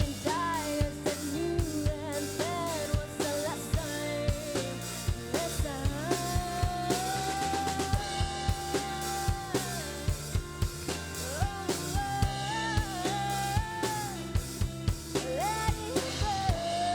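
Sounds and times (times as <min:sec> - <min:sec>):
drum kit beat: 0:00.0 - 0:16.9.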